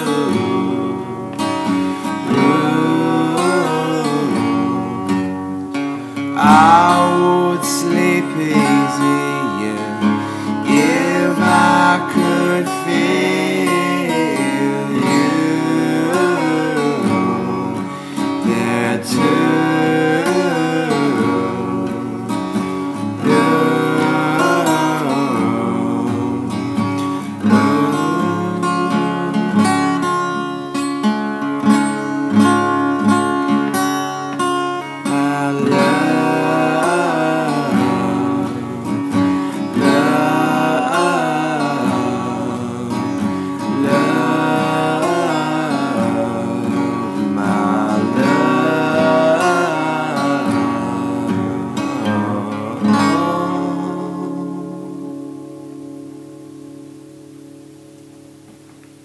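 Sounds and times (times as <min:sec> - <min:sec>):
acoustic guitar strummed and picked: 0:00.0 - 0:59.0.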